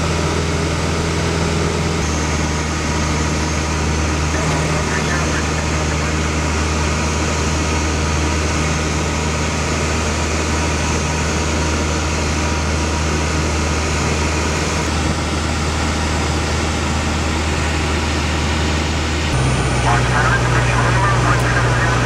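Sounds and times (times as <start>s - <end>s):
propeller airplane engine drone: 0.0s - 22.0s.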